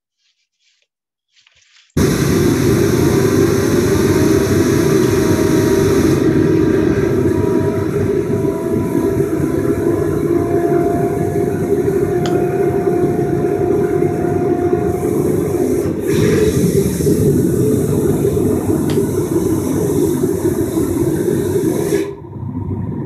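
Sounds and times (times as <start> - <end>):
turbojet engine rushing rumble: 2.0 - 23.0.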